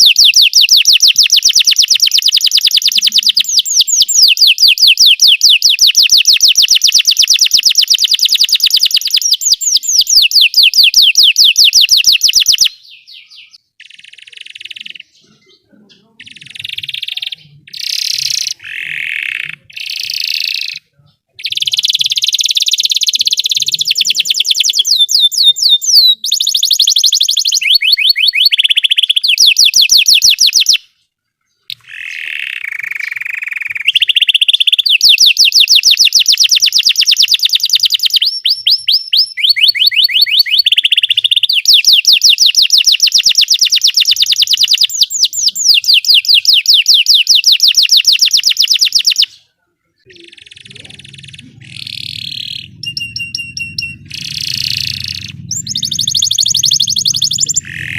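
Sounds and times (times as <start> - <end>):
canary singing trills: 0.0 - 49.4, 50.0 - 57.9.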